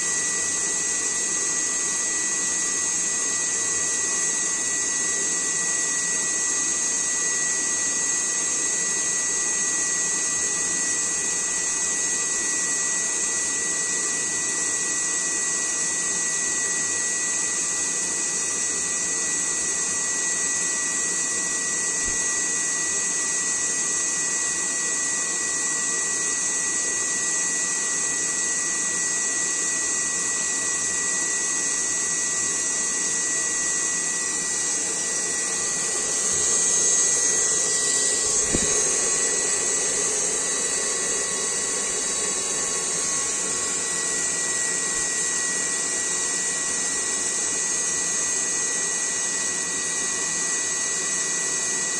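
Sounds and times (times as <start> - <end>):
electric fan motor whine: 0.0 - 51.9.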